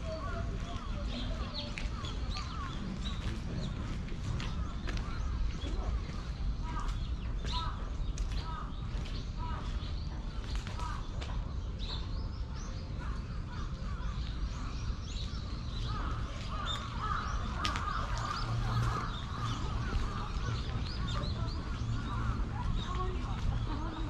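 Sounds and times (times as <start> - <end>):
birds chirping and cawing: 0.0 - 24.0
low outdoor rumble: 0.0 - 24.0.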